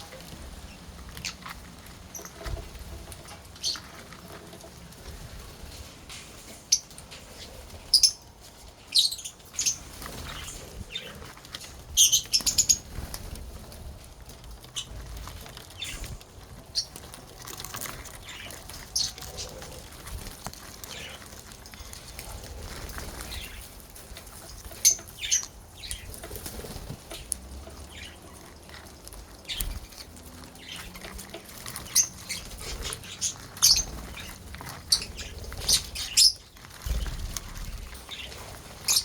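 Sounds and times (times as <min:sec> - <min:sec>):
lovebirds chirping: 0:00.0 - 0:39.0.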